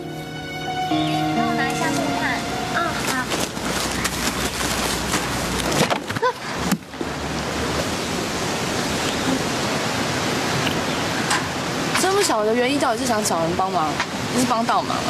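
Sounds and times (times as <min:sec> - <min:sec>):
stream running over stones: 0:01.8 - 0:15.0.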